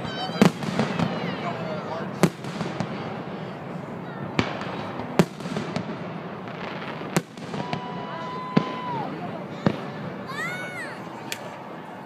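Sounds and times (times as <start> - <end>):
fireworks bangs: 0.0 - 11.6
background hubbub: 0.0 - 12.0.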